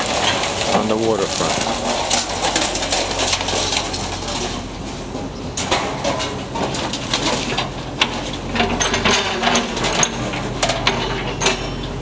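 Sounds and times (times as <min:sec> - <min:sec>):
wood and debris crashing: 0:00.0 - 0:12.0.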